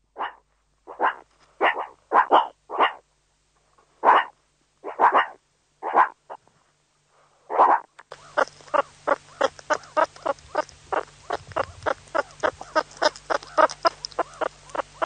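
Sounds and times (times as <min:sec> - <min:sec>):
primate barking calls: 0:00.2 - 0:03.0, 0:04.0 - 0:06.4, 0:07.5 - 0:15.0.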